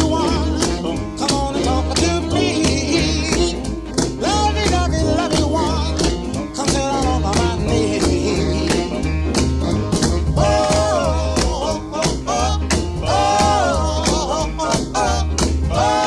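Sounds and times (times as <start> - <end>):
country song: 0.0 - 16.0.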